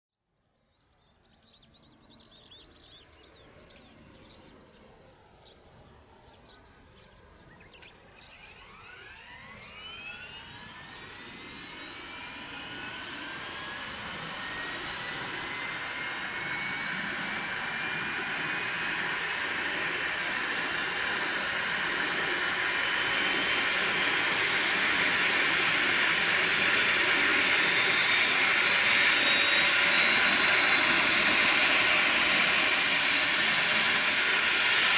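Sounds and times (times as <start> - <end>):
turbine engine whine rising: 0.6 - 34.9.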